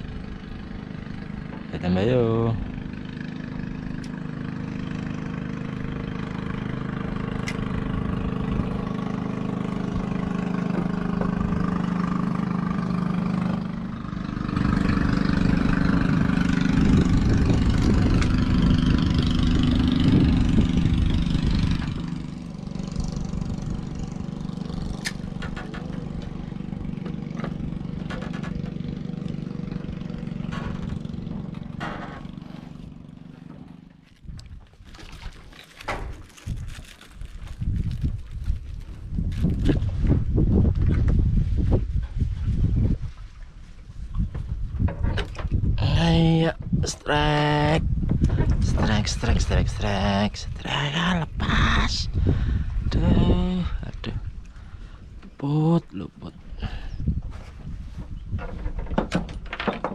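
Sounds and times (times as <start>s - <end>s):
motor engine droning: 0.0s - 42.5s, 44.2s - 58.8s.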